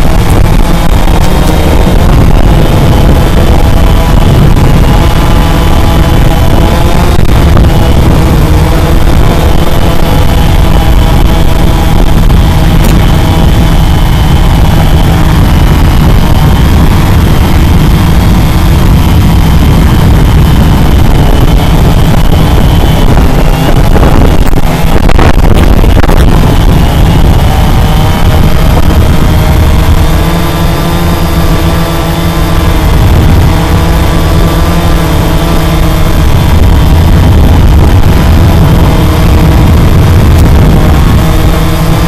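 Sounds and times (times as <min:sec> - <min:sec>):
drone motors whining: 0:00.0 - 0:42.0
prop wash rumble on microphone: 0:00.0 - 0:42.0.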